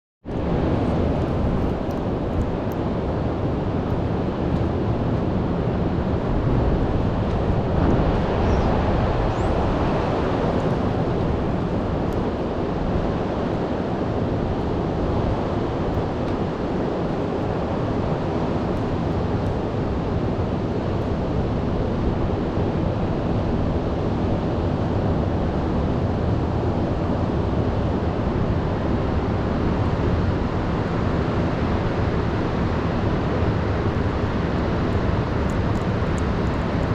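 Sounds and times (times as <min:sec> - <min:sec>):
wind buffeting microphone: 0:00.2 - 0:36.9.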